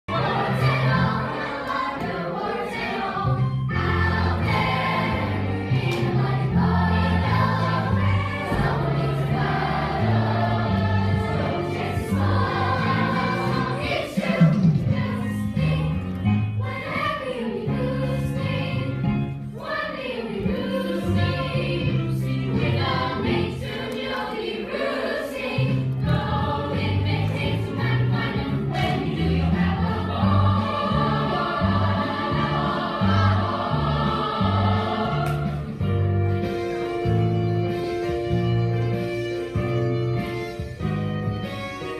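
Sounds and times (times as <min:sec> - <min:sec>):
group singing with instruments: 0:00.1 - 0:36.1.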